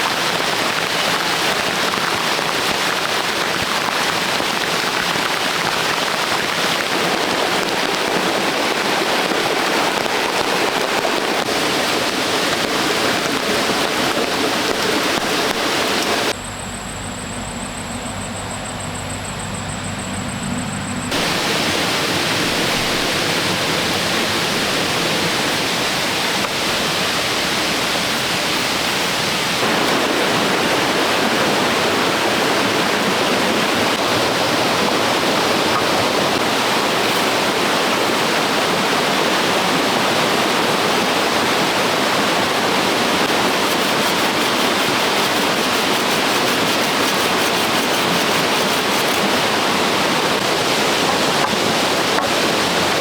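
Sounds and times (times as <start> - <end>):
heavy rain: 0.0 - 16.4, 21.1 - 53.0.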